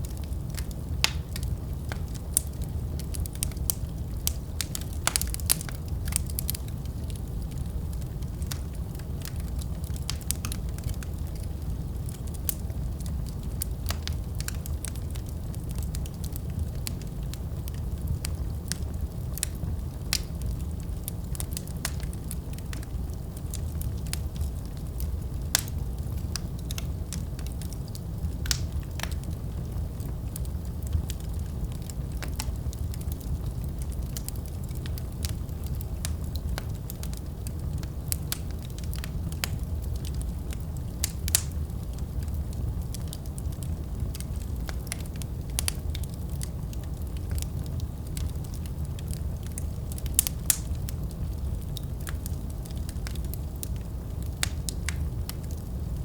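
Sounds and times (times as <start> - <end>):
low rumble of burning: 0.0 - 56.0
wood fire crackling: 0.0 - 56.0.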